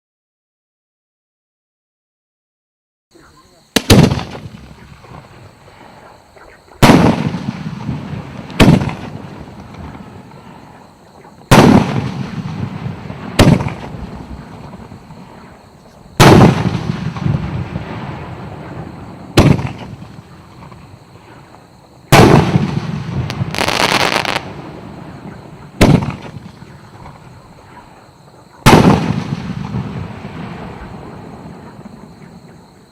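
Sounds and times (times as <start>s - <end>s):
fireworks booming: 3.7s - 32.9s.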